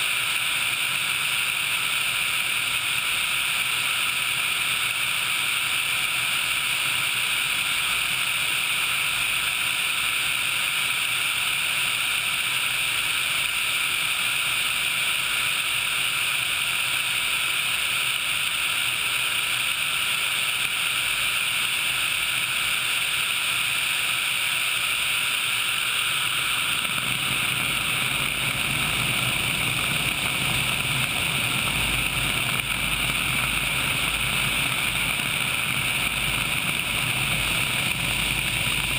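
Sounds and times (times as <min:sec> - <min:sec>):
helicopter engine: 0:00.0 - 0:38.9.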